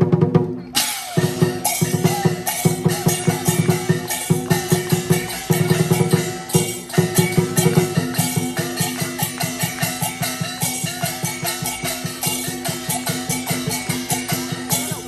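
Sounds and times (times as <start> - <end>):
music with steady beat: 0.8 - 15.0.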